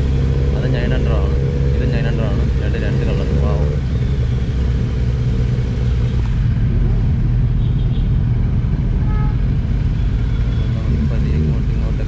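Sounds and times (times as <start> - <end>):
motorcycle engine low rumble: 0.0 - 12.0.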